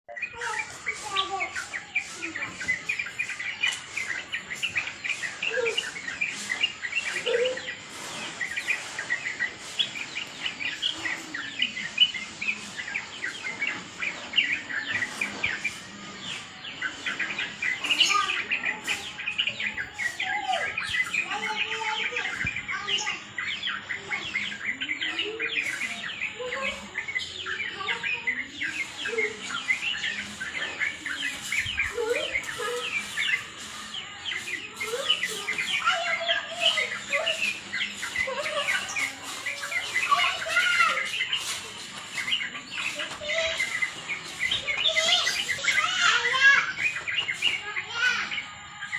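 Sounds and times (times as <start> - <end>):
birds chirping in chorus: 0.1 - 48.9.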